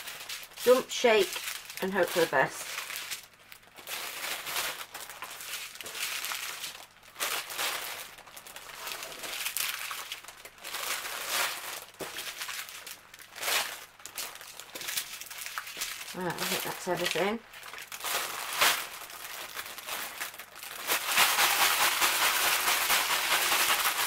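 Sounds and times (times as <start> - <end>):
plastic packets crinkling in a bag: 0.0 - 24.0.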